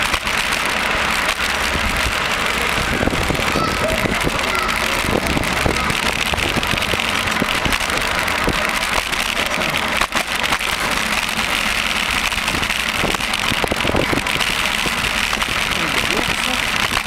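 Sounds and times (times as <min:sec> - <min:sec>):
car engines running: 0:00.0 - 0:17.0
constant rush of noise: 0:00.0 - 0:17.0.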